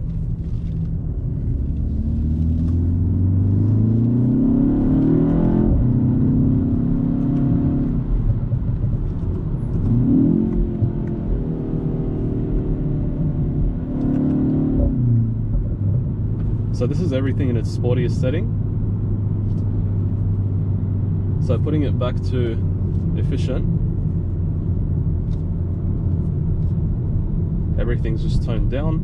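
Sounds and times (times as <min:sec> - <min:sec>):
car engine accelerating in cabin: 0:00.0 - 0:29.0.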